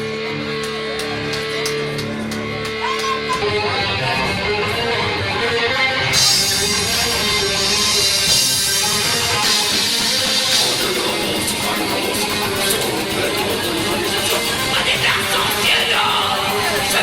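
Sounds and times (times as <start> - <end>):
band music with guitar: 0.0 - 17.0.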